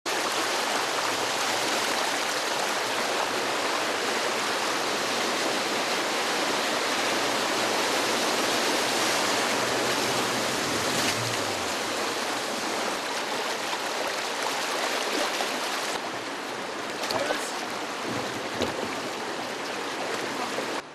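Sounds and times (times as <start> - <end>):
floodwater rushing: 0.1 - 20.9.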